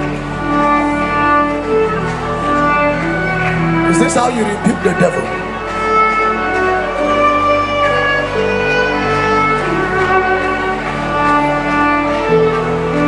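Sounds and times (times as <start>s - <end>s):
slow worship music with strings: 0.0s - 13.0s.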